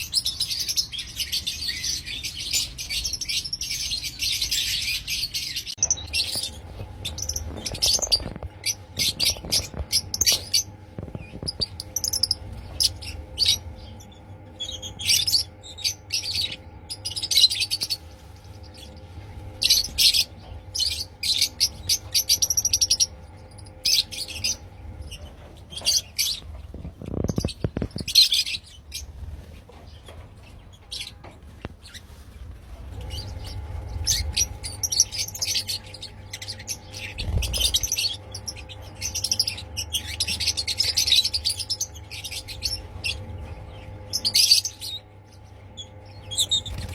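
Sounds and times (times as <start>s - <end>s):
lovebirds chirping: 0.0s - 46.9s
steady low hum: 0.0s - 46.9s.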